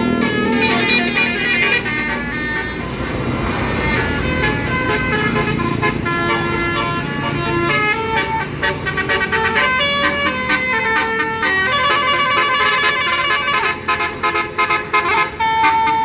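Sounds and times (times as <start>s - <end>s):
bus multi-tone horn playing a tune: 0.0s - 16.0s
low engine rumble: 0.0s - 16.0s.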